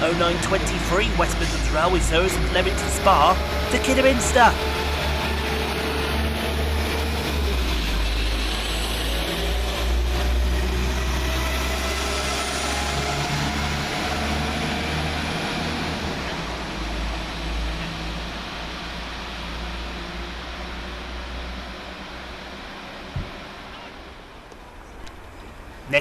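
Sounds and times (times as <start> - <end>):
diesel train engines rumbling: 0.0 - 26.0.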